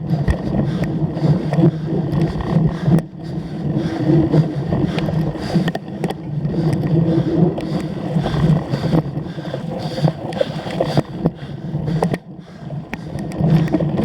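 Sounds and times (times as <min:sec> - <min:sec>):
bike tyres and drivetrain rumbling: 0:00.0 - 0:14.0
wind on microphone: 0:00.0 - 0:14.0.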